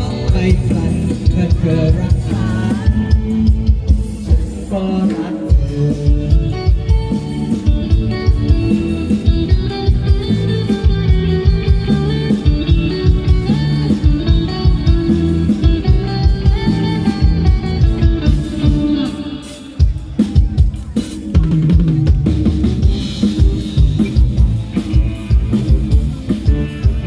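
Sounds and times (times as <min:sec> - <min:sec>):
bass guitar: 0:00.0 - 0:27.0
drums steady beat: 0:00.0 - 0:27.0
lead guitar: 0:00.0 - 0:27.0.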